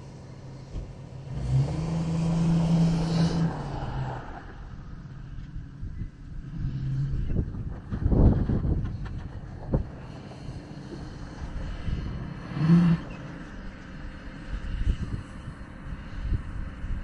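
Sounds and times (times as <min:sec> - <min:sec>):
vehicle engine running: 0:00.0 - 0:17.0
wind noise: 0:02.3 - 0:17.0.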